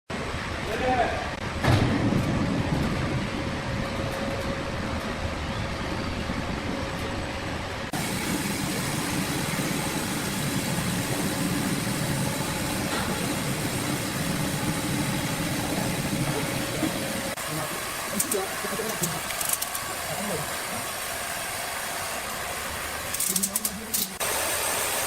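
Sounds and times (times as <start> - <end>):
sawmill machinery humming: 0.1 - 25.0.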